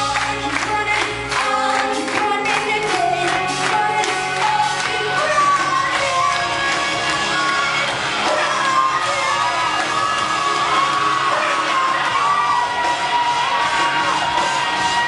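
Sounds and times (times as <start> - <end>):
female lead vocal: 0.0 - 15.0
live rock band playing: 0.1 - 15.0.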